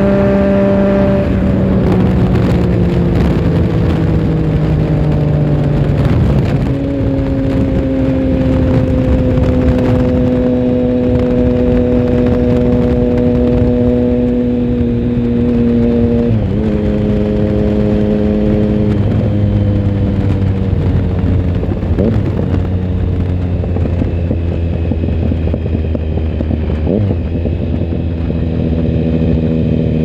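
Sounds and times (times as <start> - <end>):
motorcycle engine: 0.0 - 30.0
wind rush: 0.0 - 30.0.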